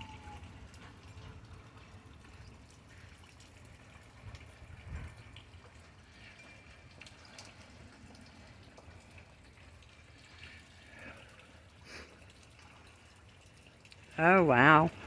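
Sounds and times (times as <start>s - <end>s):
rain dripping and trickling: 0.0s - 15.0s.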